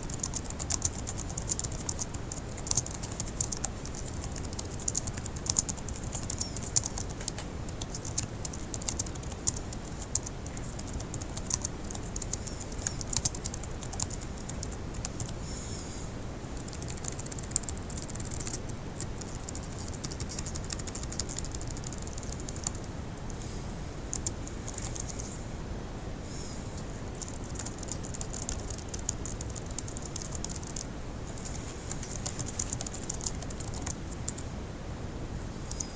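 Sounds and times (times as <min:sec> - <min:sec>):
fast typing on laptop keyboard: 0:00.0 - 0:15.4, 0:16.6 - 0:22.8, 0:24.1 - 0:25.3, 0:27.1 - 0:34.4.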